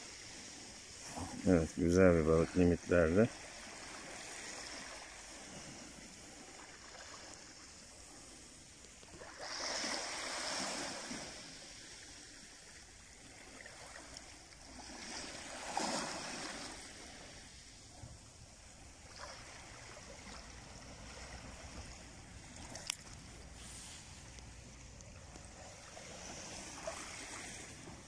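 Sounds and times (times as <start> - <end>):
small waves washing on beach: 0.0 - 28.0.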